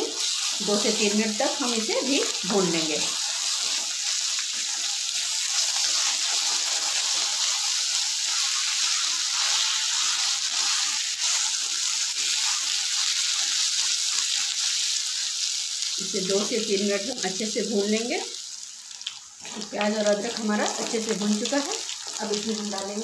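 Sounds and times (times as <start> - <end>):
onion frying in hot oil: 0.0 - 23.0.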